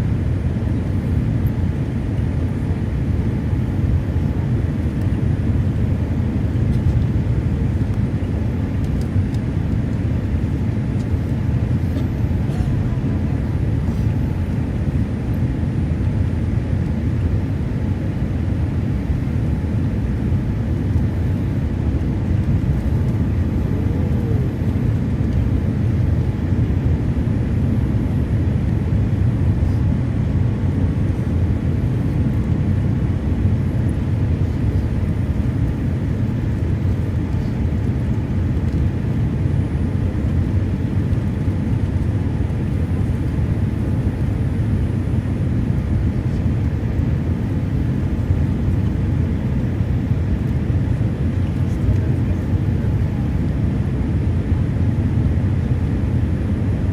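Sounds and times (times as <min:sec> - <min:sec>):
jet airliner cabin noise: 0:00.0 - 0:56.9.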